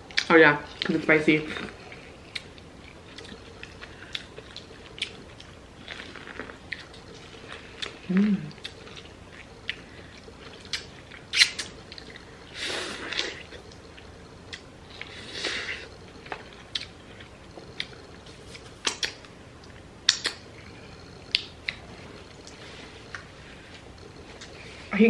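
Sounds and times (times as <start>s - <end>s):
soft noisy eating sounds: 0.0s - 25.0s.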